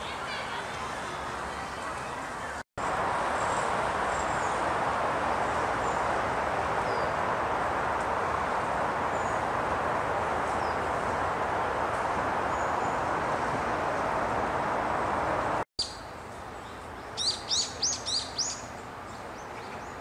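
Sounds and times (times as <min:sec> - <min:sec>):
rushing outdoor noise: 0:00.0 - 0:20.0.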